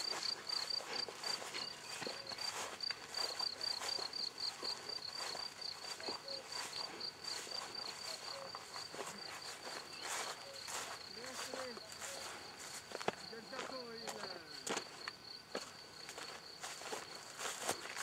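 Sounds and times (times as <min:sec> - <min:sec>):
footsteps running through grass: 0:00.0 - 0:15.0, 0:15.6 - 0:18.0
insect chirping: 0:00.0 - 0:18.0.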